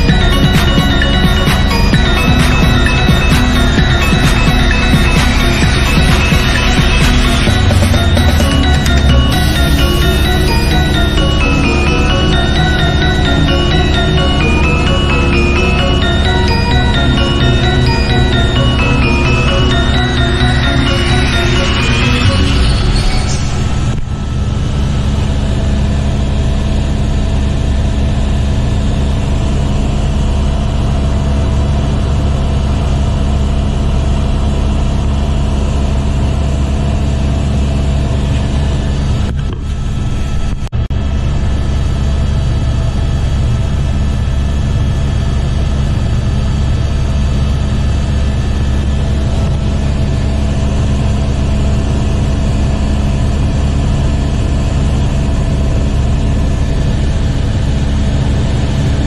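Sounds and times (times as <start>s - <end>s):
helicopter turbine and rotor drone: 0.0s - 59.0s
thin steady whine: 0.0s - 59.0s.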